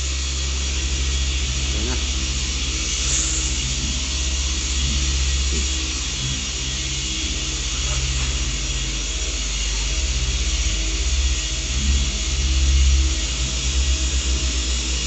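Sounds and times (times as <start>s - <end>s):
electric polisher humming: 0.0s - 15.0s.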